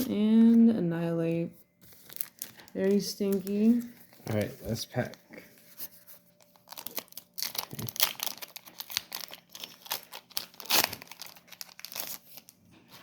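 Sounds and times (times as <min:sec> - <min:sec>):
foil wrapper crinkling and tearing: 0:01.9 - 0:13.0.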